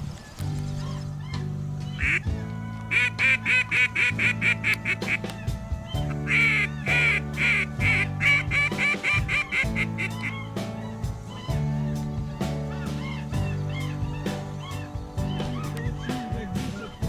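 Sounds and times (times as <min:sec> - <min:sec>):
music with low chords: 0:00.0 - 0:17.0
geese honking: 0:00.1 - 0:17.0.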